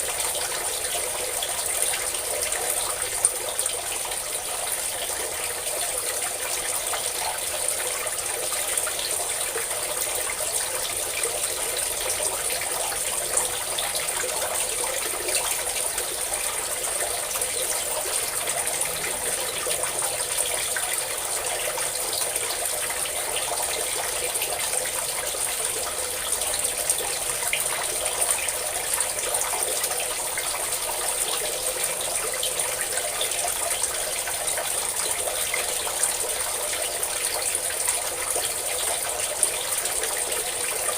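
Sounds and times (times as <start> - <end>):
water pouring and splashing: 0.0 - 40.9.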